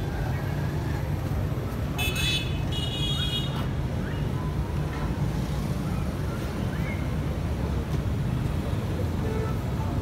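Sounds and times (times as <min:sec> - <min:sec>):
street noise low rumble: 0:00.0 - 0:10.0.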